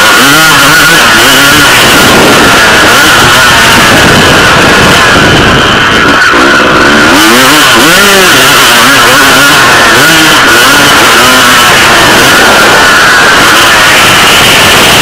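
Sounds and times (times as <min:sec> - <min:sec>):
dirt bike engine revving: 0:00.0 - 0:15.0
wind rush on microphone: 0:00.0 - 0:15.0.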